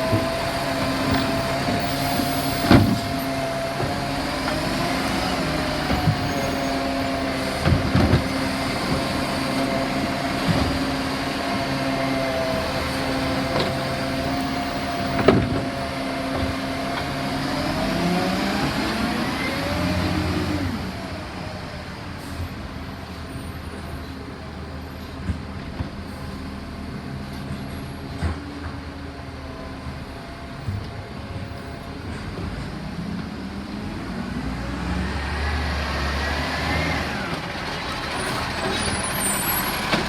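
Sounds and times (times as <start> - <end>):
garbage truck engine running: 0.0 - 40.0.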